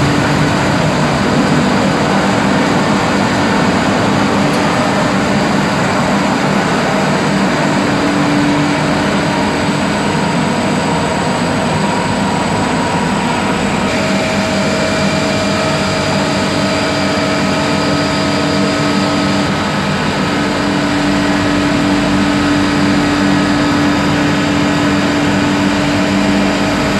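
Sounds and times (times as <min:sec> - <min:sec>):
machinery humming: 0:00.0 - 0:26.9
machinery whining tones: 0:00.0 - 0:26.9.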